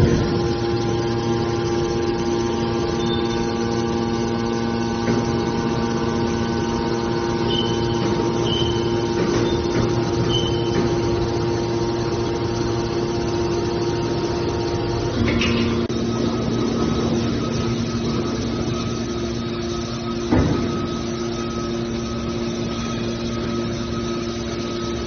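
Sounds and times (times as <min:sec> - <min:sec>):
hydraulic pump humming and whining: 0:00.0 - 0:25.0.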